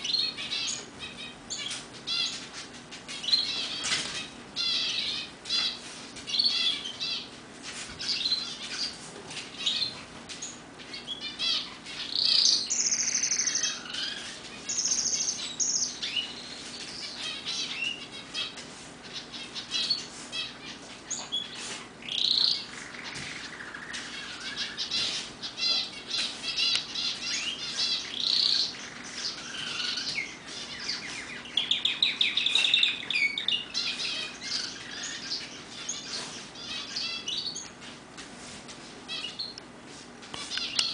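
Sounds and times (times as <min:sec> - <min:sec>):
canary singing trills: 0:00.0 - 0:38.1, 0:39.1 - 0:40.9.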